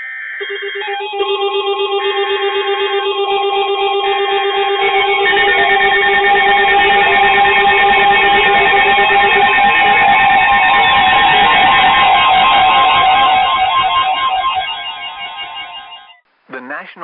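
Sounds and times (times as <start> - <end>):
buzzing data bursts: 0.4 - 16.2
guitar music: 0.4 - 16.2.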